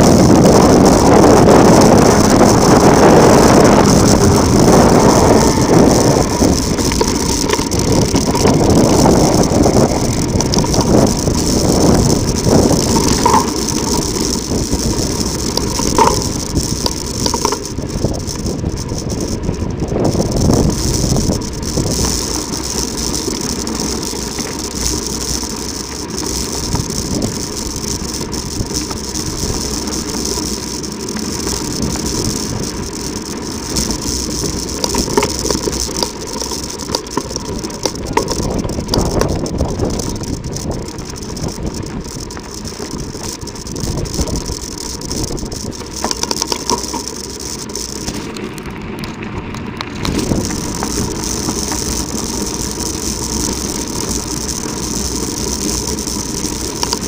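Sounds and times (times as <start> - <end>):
bike frame and chain rattling: 0.0 - 57.0
tyres crunching on gravel: 0.0 - 57.0.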